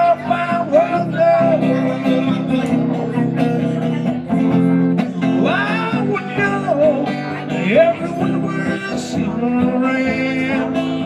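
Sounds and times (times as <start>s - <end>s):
guitar-backed band music: 0.0s - 11.0s
person singing: 0.0s - 11.0s.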